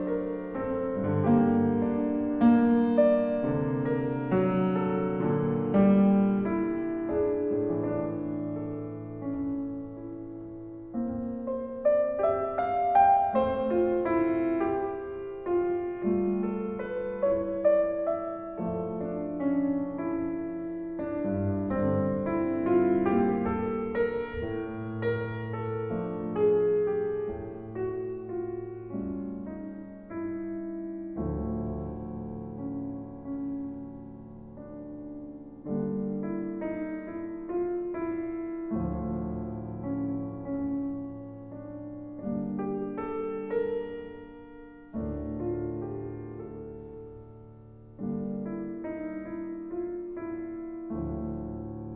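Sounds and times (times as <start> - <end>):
solo piano music: 0.0 - 51.9.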